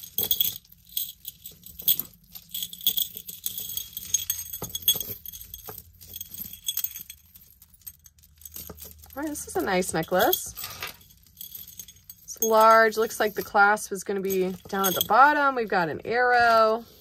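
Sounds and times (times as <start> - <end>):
metal chains jangling: 0.0 - 17.0.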